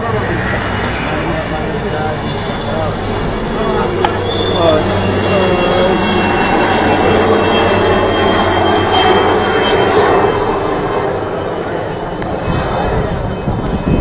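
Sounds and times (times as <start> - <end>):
helicopter flying close by: 0.0 - 14.0.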